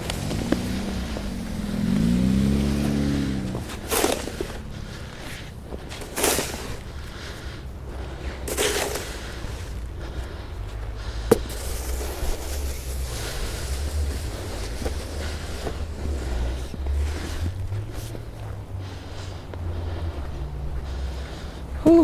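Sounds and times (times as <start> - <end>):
snow shovel scraping: 0.0 - 22.0.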